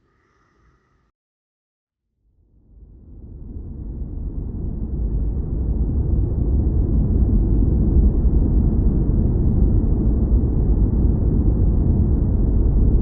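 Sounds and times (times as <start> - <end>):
deep rumbling noise: 2.6 - 13.0.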